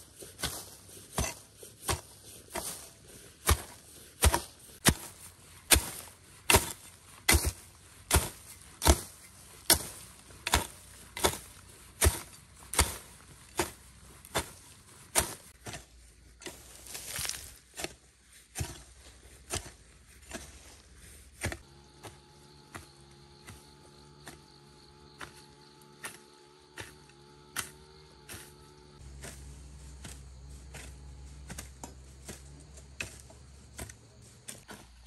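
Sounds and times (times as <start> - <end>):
hand tool chopping: 0.0 - 35.0.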